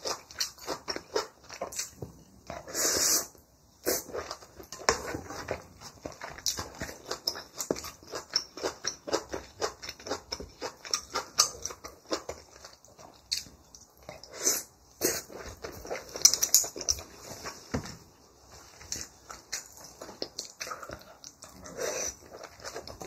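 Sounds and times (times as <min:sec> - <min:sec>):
person chewing: 0:00.0 - 0:17.7, 0:18.7 - 0:23.0.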